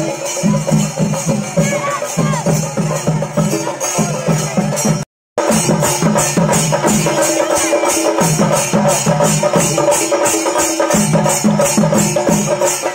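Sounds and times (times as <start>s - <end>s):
hand cymbals clashing: 0.0s - 12.9s
rolling drum strokes: 0.0s - 12.9s.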